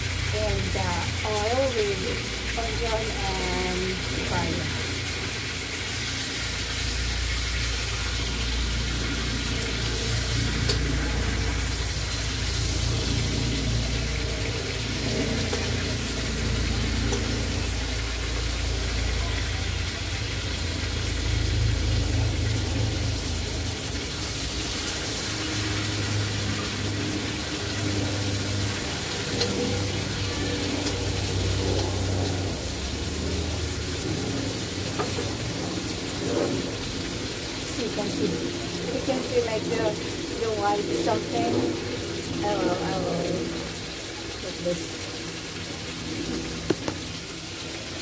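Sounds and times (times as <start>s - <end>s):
onion and garlic sizzling in oil: 0.0s - 48.0s.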